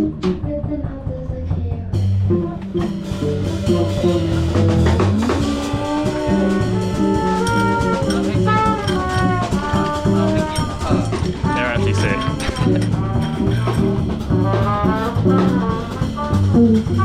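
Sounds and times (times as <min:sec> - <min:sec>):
live jazz band playing: 0:02.1 - 0:17.0.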